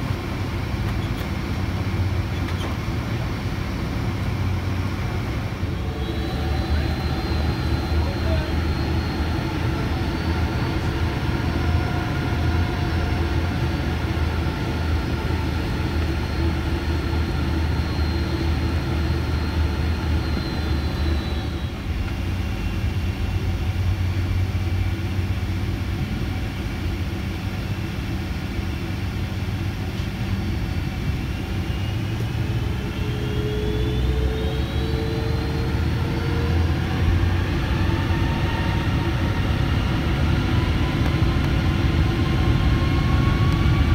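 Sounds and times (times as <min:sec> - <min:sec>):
jet engine whines: 0:00.0 - 0:43.9
low jet engine rumble: 0:00.0 - 0:43.9.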